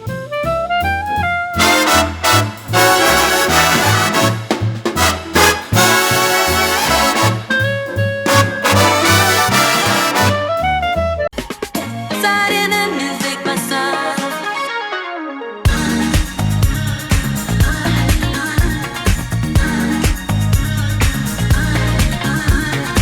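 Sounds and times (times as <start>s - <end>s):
swing jazz with horns and bass: 0.0s - 11.3s, 15.7s - 23.0s.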